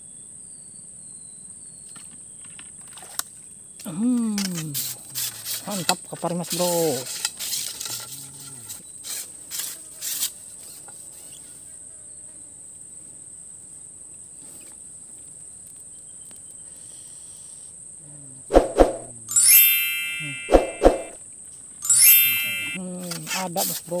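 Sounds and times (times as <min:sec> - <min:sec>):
insects droning: 0:00.0 - 0:18.5, 0:22.8 - 0:24.0.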